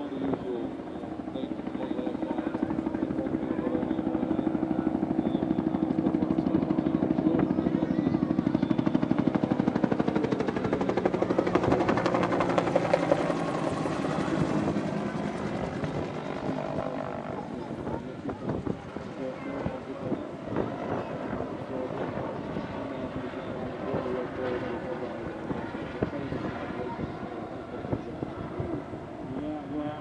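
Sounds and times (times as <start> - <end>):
helicopter rotor beating: 0.0 - 30.0.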